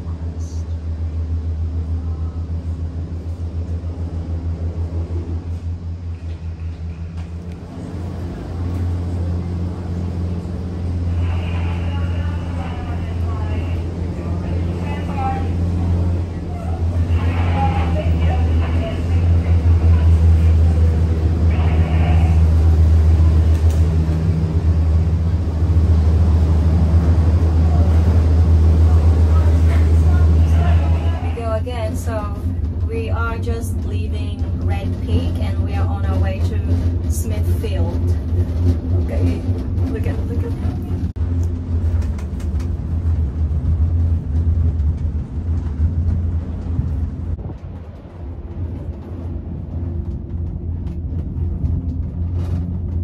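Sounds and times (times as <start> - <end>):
cable car cabin rumble: 0.0 - 53.0.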